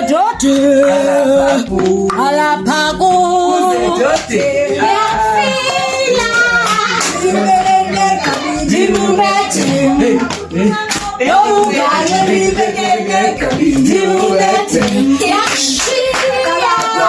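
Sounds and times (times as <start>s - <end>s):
hand clapping: 0.0s - 17.0s
voices singing: 0.0s - 17.0s.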